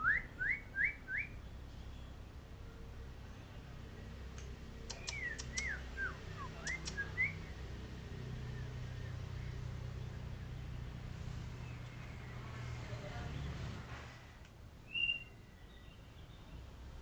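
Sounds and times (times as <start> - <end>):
songbird singing: 0.0 - 13.9, 14.7 - 17.0.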